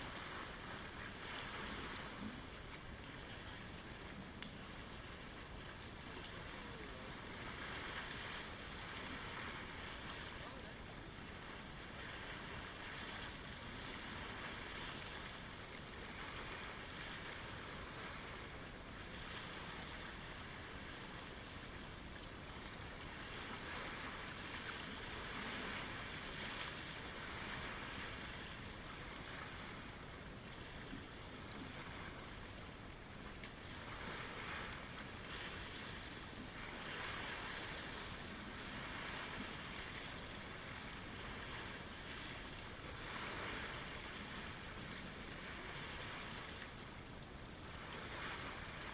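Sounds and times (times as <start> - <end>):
lake waves washing in: 0.0 - 48.9.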